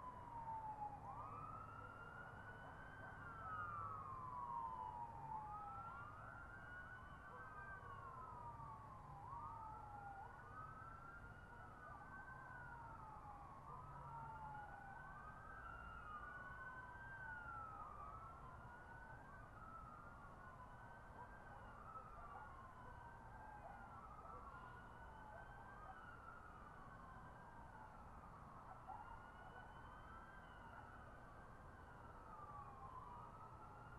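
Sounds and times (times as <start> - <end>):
faint siren wailing: 0.0 - 33.9.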